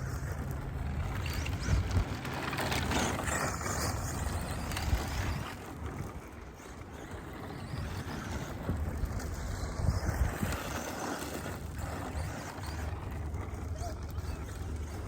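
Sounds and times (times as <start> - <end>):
rc truck motor and tyres hissing: 0.0 - 15.0
wind buffeting microphone: 0.0 - 15.0.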